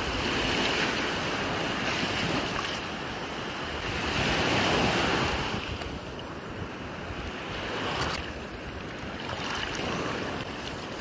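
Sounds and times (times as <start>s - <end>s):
surf washing on shore: 0.0s - 11.0s.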